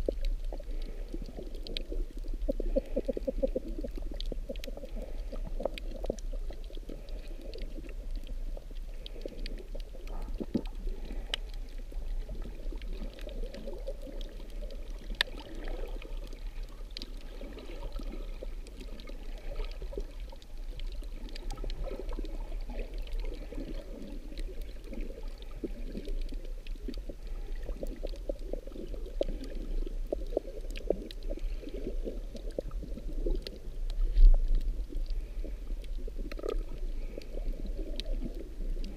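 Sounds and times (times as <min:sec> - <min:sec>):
crackle of small clicks: 0:00.0 - 0:38.9
underwater rumble of moving water: 0:00.0 - 0:38.9.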